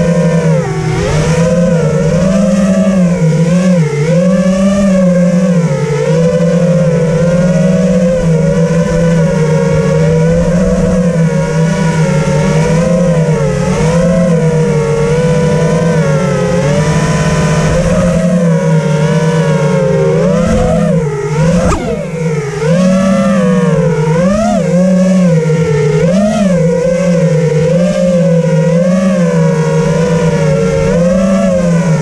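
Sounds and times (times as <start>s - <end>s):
quadcopter propellers whining: 0.0s - 32.0s.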